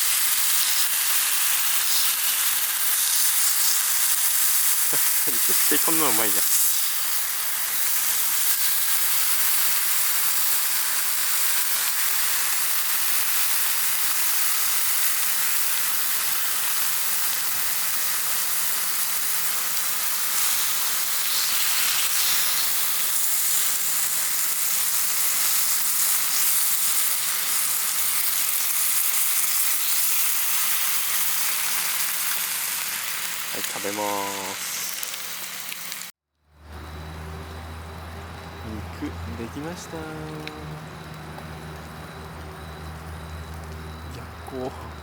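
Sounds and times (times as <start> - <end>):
meat sizzling: 0.0 - 36.2.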